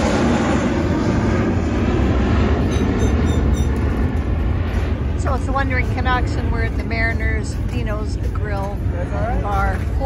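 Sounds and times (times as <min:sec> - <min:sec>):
jet engine rumble: 0:00.0 - 0:10.0.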